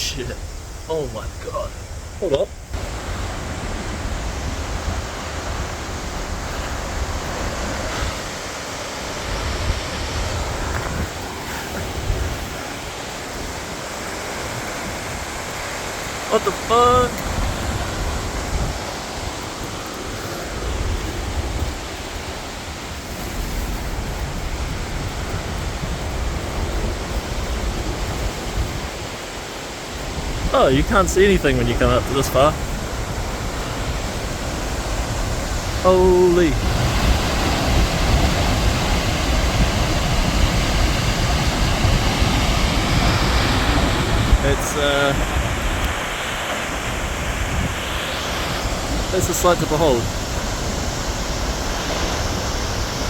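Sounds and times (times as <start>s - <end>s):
waterfall rushing: 0.0s - 53.0s
wind buffeting microphone: 0.0s - 53.0s.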